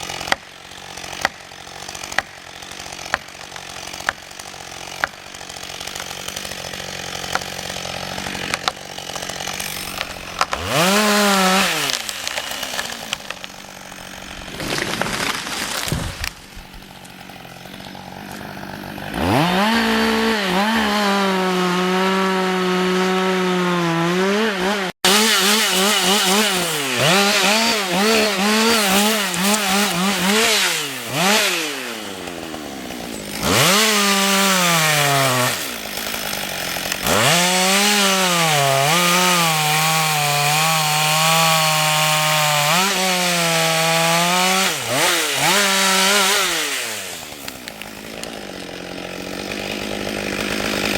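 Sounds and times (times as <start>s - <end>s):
chainsaw revving and cutting wood: 0.0s - 50.9s.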